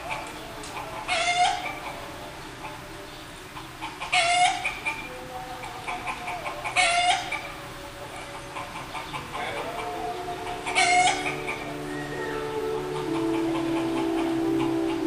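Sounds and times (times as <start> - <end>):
busy farmyard background: 0.0 - 15.0
chickens calling: 0.0 - 15.0.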